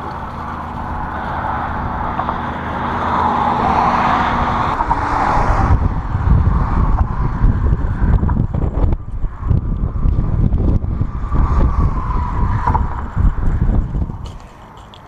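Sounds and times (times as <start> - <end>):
road traffic passing: 0.0 - 15.0
wind buffeting microphone: 0.0 - 15.0.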